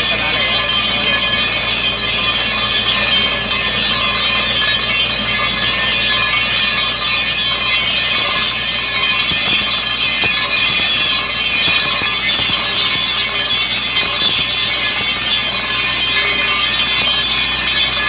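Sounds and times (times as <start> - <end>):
water gushing from borehole: 0.0 - 18.0.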